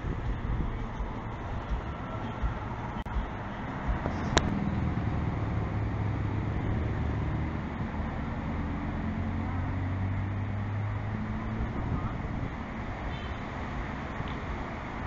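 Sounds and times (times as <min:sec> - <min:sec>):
low engine hum: 0:00.0 - 0:15.0
road traffic rush: 0:00.0 - 0:15.0.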